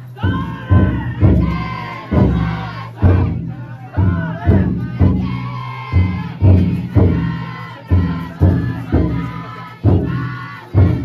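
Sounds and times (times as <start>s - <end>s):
men chanting and shouting: 0.0s - 11.0s
taiko drum beating: 0.2s - 11.0s.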